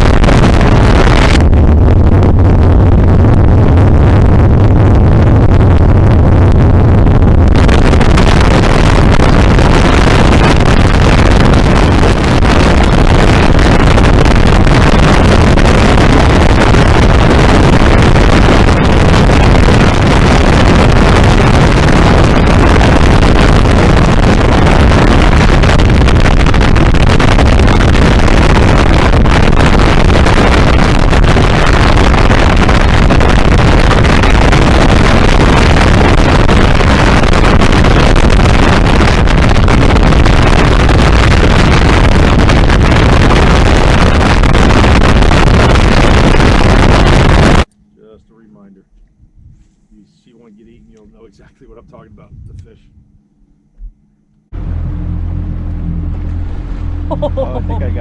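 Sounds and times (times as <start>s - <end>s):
wind rush on microphone: 0.0s - 47.7s, 49.0s - 50.0s, 51.8s - 58.0s
motorboat engine drone: 0.0s - 58.0s.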